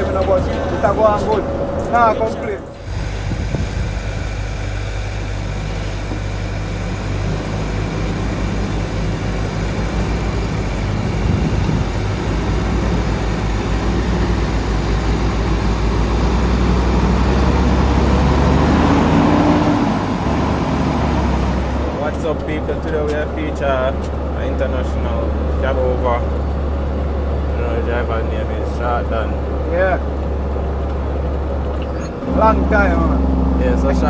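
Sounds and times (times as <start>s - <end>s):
diesel truck engine rumbling: 0.0s - 34.0s.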